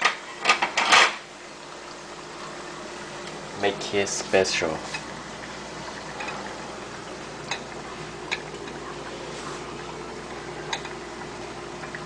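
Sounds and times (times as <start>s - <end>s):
bubbling hiss of pots on stove: 0.0s - 12.0s.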